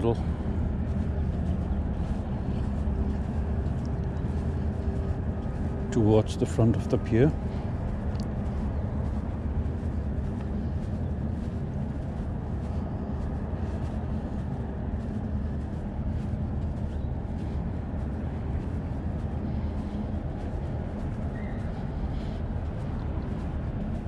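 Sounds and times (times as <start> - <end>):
faint footsteps: 0.0 - 24.0
wind buffeting microphone: 0.0 - 24.0.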